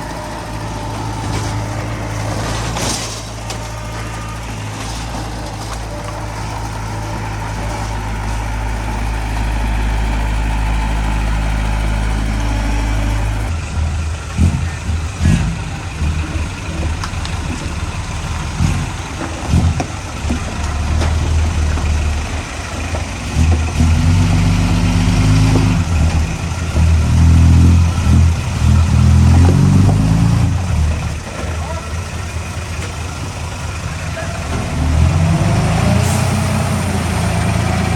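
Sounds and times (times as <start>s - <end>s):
diesel machinery engine labouring: 0.0s - 37.9s.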